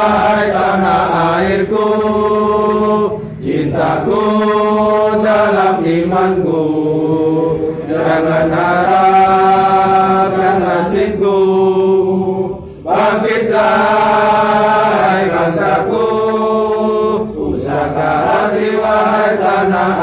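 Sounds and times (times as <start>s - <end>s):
men singing in unison: 0.0s - 20.0s.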